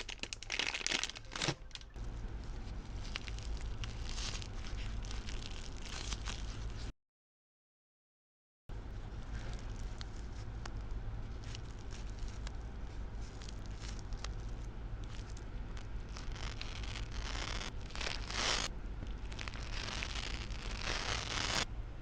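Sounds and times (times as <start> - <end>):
plastic packaging crinkling: 0.0 - 6.9, 9.2 - 21.6.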